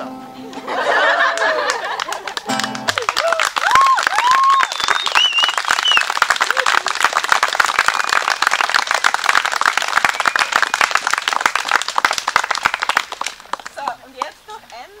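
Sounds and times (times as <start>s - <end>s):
group applause: 0.8s - 14.3s.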